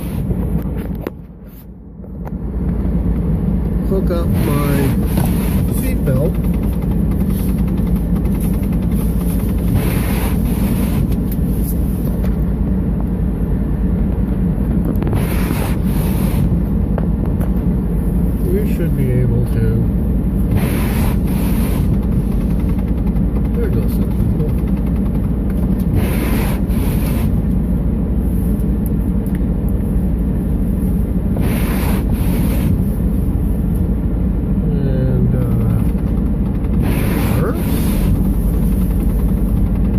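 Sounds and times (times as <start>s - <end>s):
car engine running: 0.0s - 39.9s
vehicle cabin rumble: 0.0s - 39.9s
defroster fan blowing: 1.9s - 39.9s.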